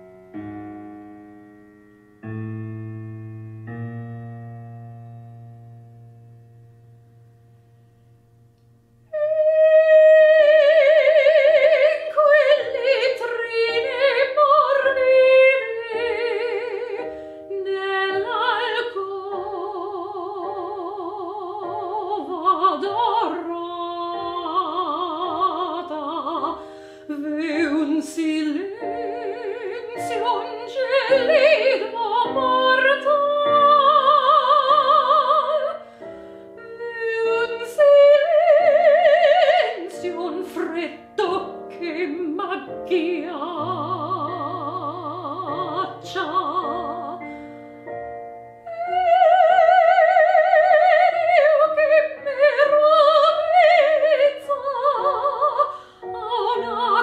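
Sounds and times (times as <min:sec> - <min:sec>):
piano accompaniment: 0:00.0 - 0:57.0
operatic soprano singing: 0:09.1 - 0:35.9, 0:36.5 - 0:47.4, 0:48.6 - 0:57.0.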